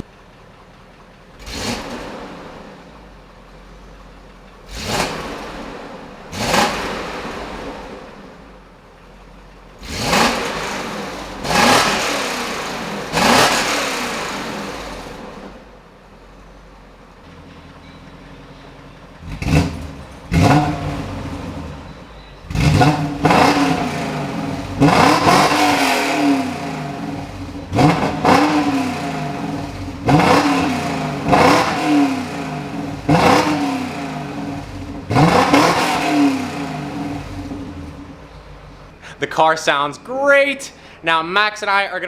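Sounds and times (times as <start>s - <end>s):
car engine revving: 0.0s - 17.6s, 18.9s - 42.0s.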